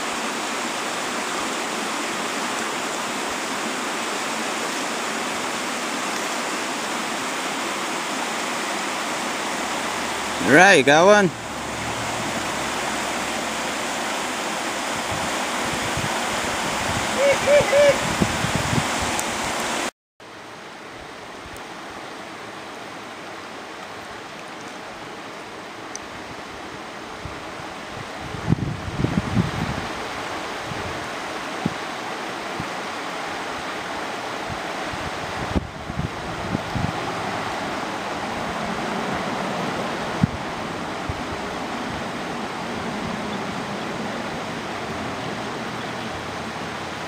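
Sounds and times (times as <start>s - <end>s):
river water rushing over rocks: 0.0s - 47.0s.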